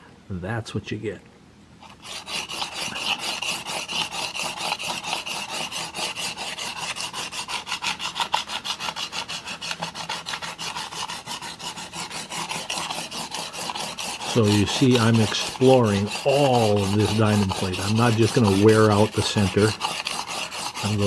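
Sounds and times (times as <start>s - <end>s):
blade scraping on sharpening plate: 1.8s - 21.0s.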